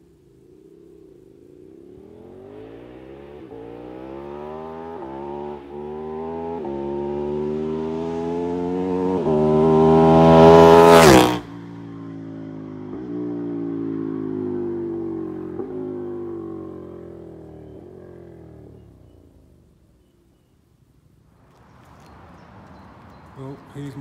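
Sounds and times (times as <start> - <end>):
motorcycle engine accelerating past: 0.2 - 20.1.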